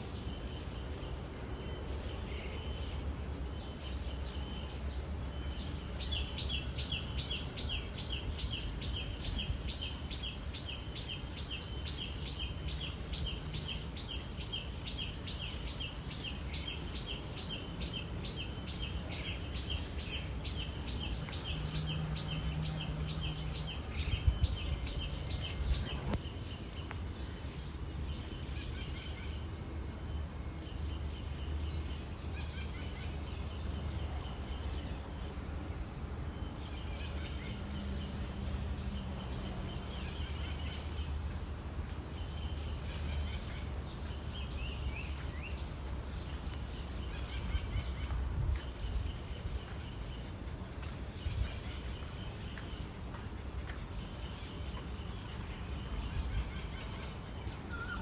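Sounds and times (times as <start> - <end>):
cicadas droning: 0.0 - 58.0
lower pulsing insect call: 0.0 - 58.0.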